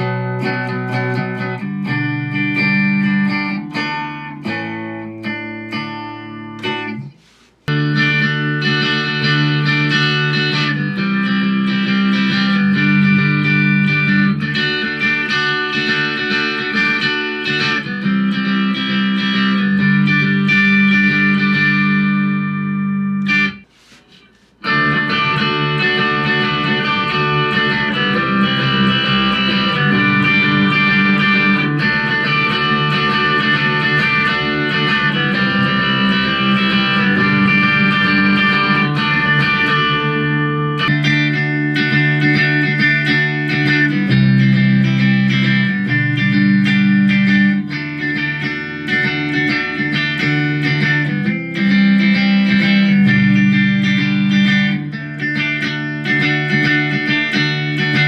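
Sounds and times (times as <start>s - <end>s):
electric guitar chords: 0.0s - 58.0s.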